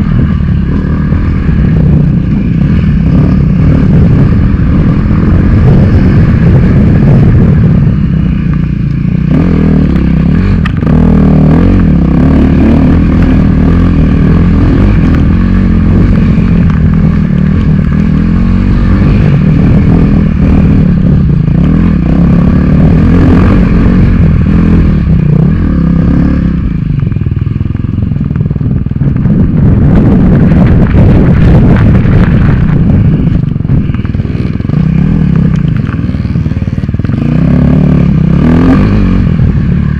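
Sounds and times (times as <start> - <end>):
dirt bike engine revving: 0.0 - 28.3, 29.0 - 39.9.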